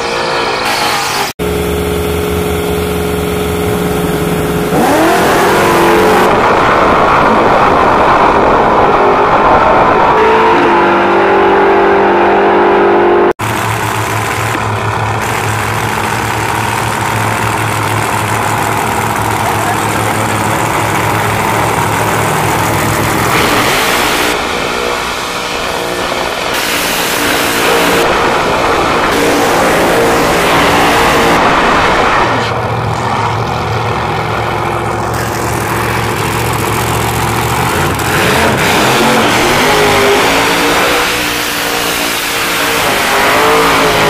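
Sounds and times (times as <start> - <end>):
drag car engine rumbling: 0.0 - 10.2, 13.4 - 44.0
drag cars at full throttle: 0.0 - 44.0.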